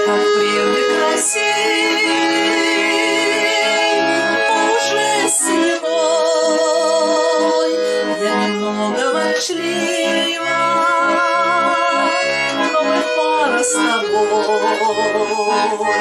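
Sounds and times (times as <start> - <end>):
button accordion melody: 0.0 - 16.0
person singing: 0.0 - 16.0.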